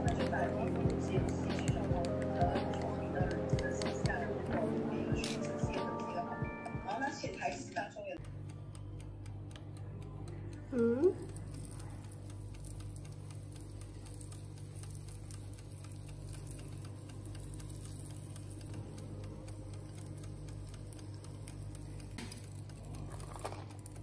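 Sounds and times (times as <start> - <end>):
faint ticking: 0.0 - 5.4, 8.2 - 24.0
low steady hum: 0.0 - 24.0.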